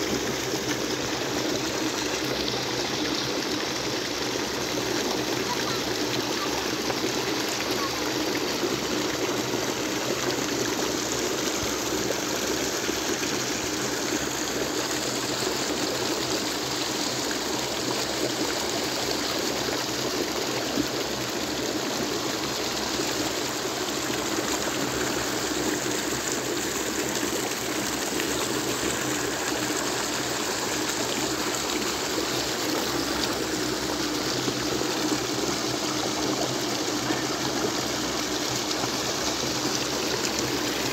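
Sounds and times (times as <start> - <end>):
water rushing over weir: 0.0 - 40.9.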